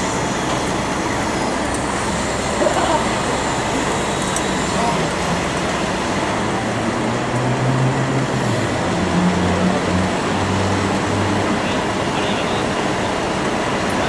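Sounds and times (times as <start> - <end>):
excavator diesel engine under load: 0.0 - 14.0
steady background noise: 0.0 - 14.0.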